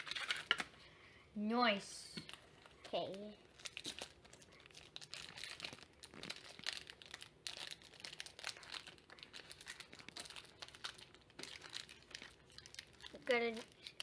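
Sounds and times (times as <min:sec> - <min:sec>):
foil wrapper crinkling: 0:00.0 - 0:00.7, 0:02.3 - 0:14.0.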